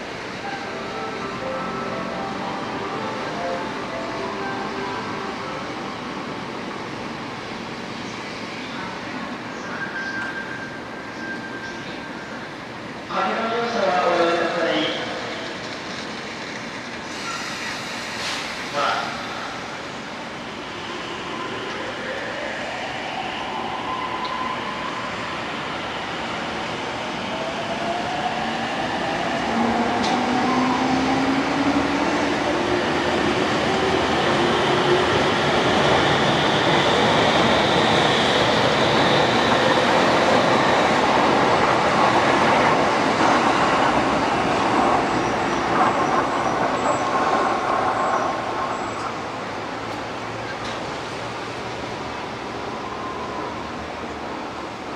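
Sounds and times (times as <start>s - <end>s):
train running on track: 0.0s - 54.9s.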